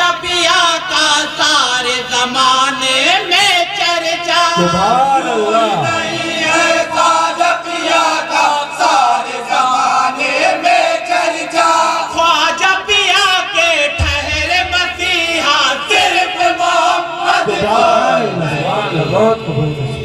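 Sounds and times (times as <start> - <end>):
men singing in chorus: 0.0 - 20.0.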